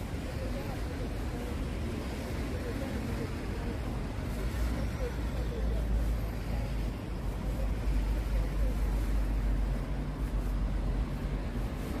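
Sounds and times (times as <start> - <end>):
city traffic rumble: 0.0 - 12.0
faint voices of passers-by: 0.0 - 12.0.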